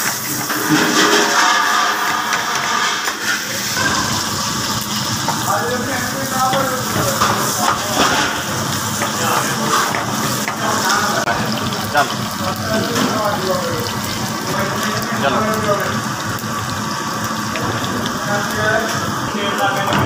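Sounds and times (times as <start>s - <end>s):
kitchen noise hiss: 0.0s - 20.0s
indistinct voices: 0.4s - 16.5s, 17.4s - 20.0s.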